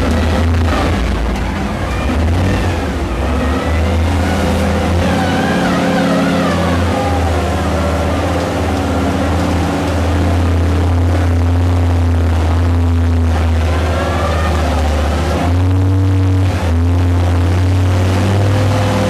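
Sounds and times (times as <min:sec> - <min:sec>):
mining vehicle engine humming: 0:00.0 - 0:19.0.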